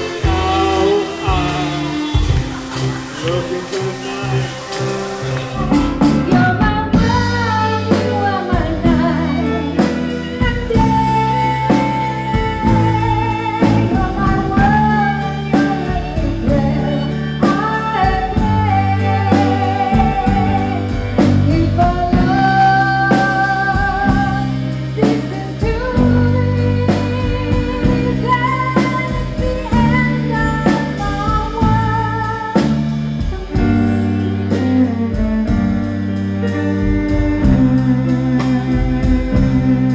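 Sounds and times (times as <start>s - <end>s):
woman singing into a microphone: 0.0s - 2.6s, 6.0s - 32.9s, 36.5s - 39.9s
acoustic guitar: 0.0s - 39.9s
drum kit: 0.0s - 39.9s
violins: 0.0s - 39.9s.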